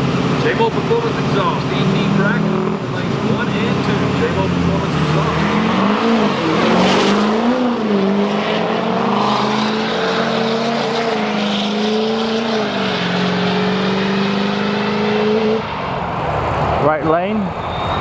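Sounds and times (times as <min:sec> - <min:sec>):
diesel truck engines running loud: 0:00.0 - 0:18.0.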